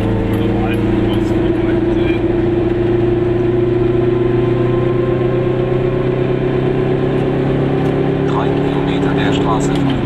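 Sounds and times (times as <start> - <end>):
two-stroke car engine running: 0.0 - 10.0.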